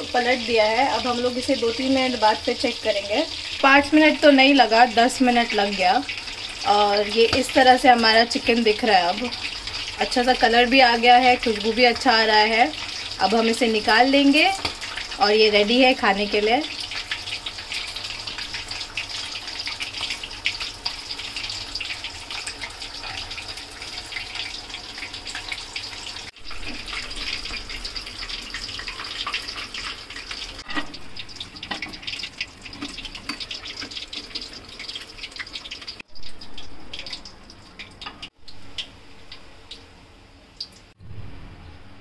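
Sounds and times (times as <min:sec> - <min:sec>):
chicken deep-frying in oil: 0:00.0 - 0:42.0.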